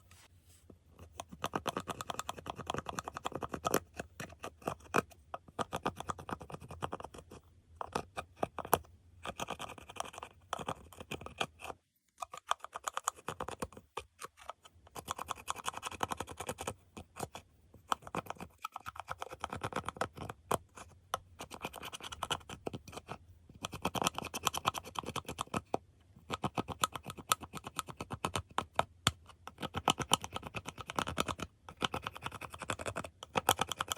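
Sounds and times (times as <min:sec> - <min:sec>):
scratching eyeshadow into slime: 0:01.0 - 0:33.9.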